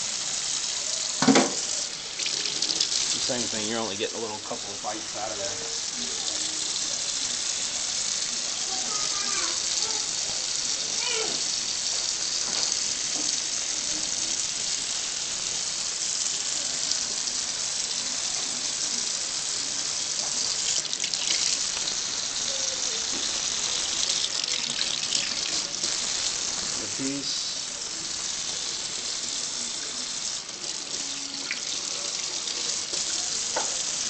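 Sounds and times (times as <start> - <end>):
tap water running into sink: 0.0 - 34.0.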